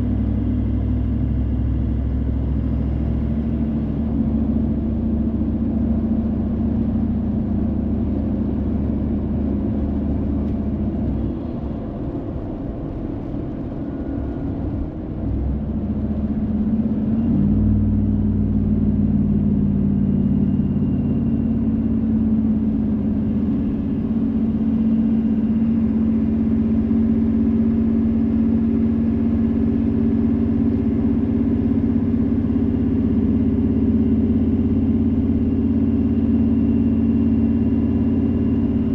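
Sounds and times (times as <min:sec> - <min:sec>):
car engine hum: 0:00.0 - 0:38.9
road noise: 0:00.0 - 0:38.9.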